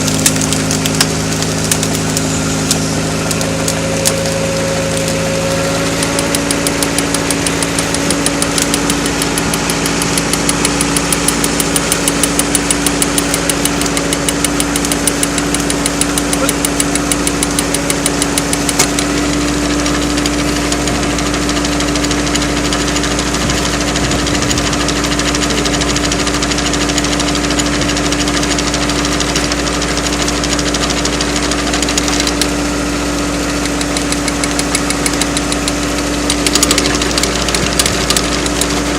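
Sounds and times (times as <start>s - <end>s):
log splitter engine running: 0.0s - 38.9s.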